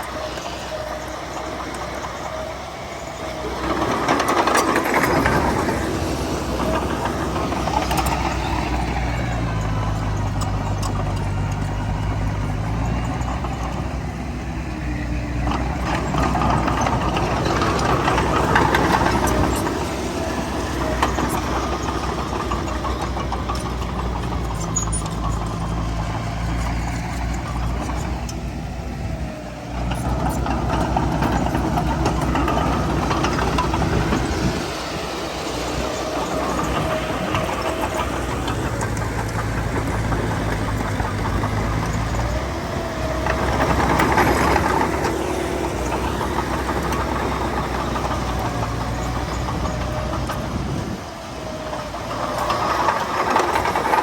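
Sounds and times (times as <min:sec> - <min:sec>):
heavy diesel engine revving: 0:00.0 - 0:54.0.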